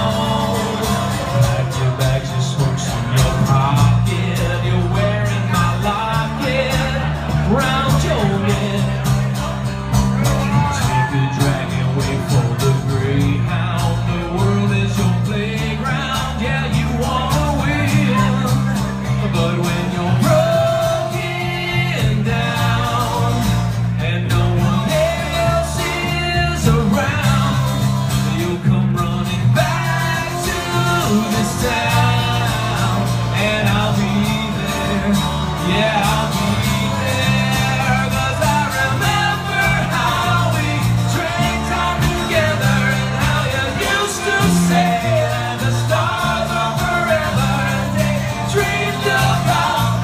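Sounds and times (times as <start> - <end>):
man singing into a microphone: 0.0 - 50.0
strummed acoustic guitars: 0.0 - 50.0.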